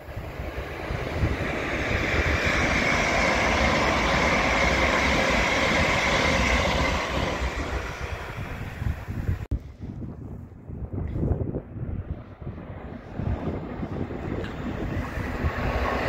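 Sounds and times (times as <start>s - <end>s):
train wheels rushing on rails: 0.0s - 9.8s, 12.2s - 16.0s.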